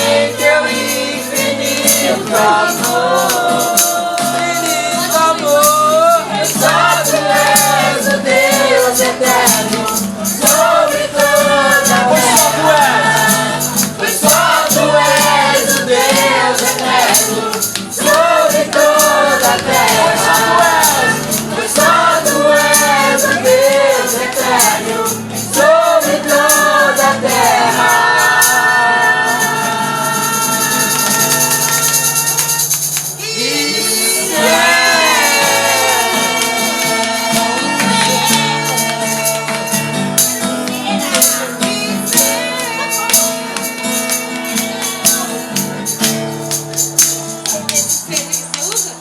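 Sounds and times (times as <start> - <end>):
young voices singing: 0.0 - 45.8
acoustic guitar: 0.0 - 49.0
cajon beat: 0.0 - 49.0.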